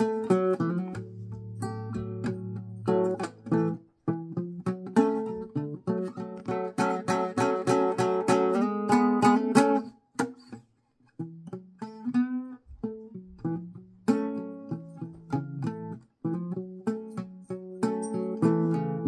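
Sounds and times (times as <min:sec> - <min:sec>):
fingerpicked acoustic blues guitar: 0:00.0 - 0:19.0.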